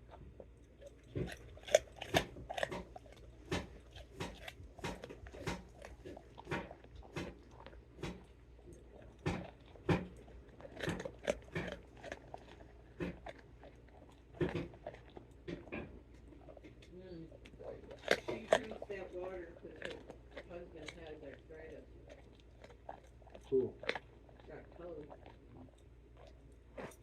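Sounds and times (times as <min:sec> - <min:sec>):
dog crunching carrots: 0:00.0 - 0:27.0.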